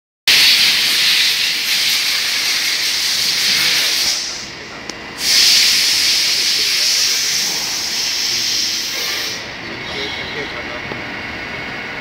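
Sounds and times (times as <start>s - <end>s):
grinding machine hissing: 0.3s - 10.8s.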